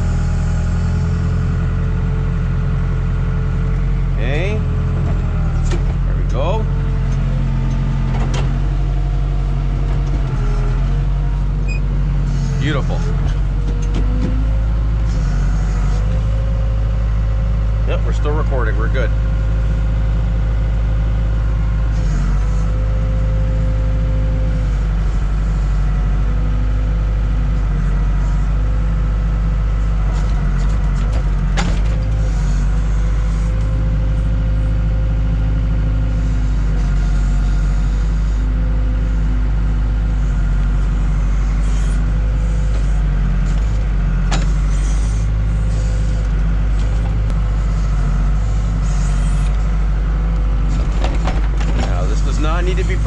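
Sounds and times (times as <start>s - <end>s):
backhoe diesel engine running: 0.0s - 53.0s.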